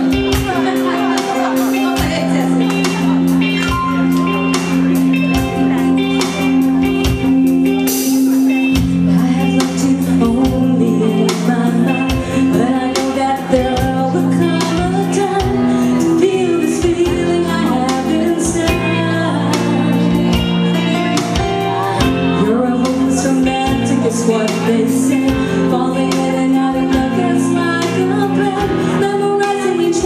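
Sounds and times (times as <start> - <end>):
live band playing: 0.0 - 30.0.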